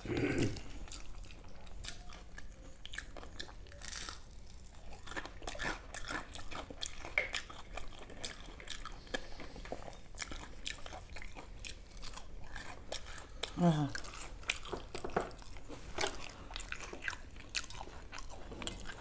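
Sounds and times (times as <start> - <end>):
chewing crispy food: 0.0 - 19.0.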